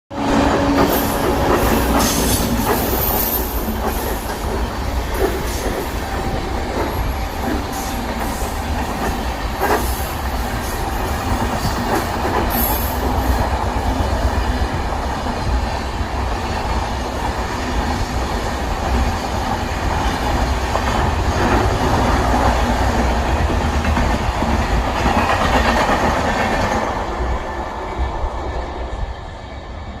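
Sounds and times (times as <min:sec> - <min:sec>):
train rumbling along track: 0:00.1 - 0:30.0.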